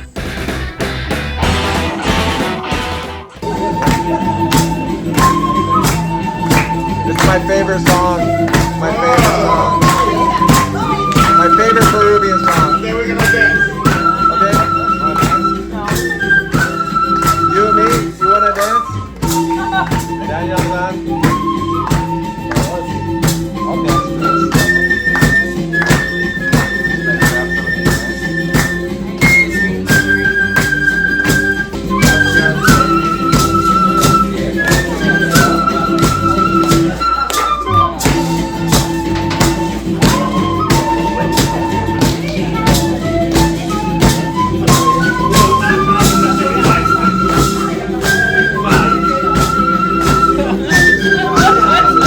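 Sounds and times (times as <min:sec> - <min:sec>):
dance music with percussion beat: 0:00.0 - 0:52.0.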